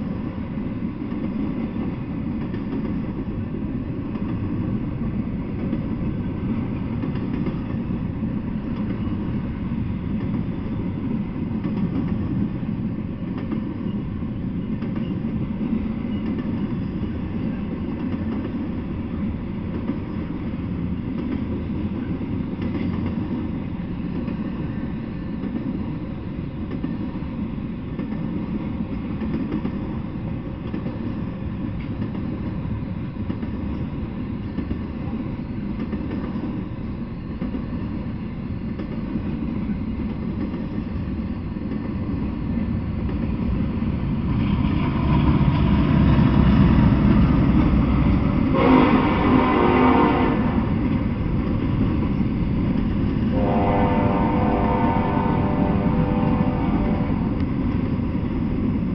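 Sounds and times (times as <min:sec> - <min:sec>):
freight train wheels on rails: 0:00.0 - 0:58.9.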